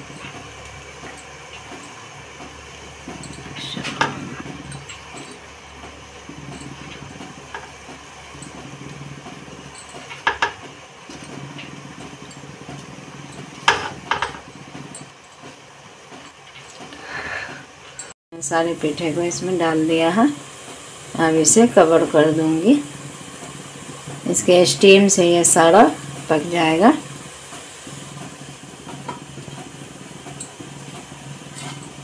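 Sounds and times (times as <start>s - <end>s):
water boiling in pot: 0.0s - 32.0s.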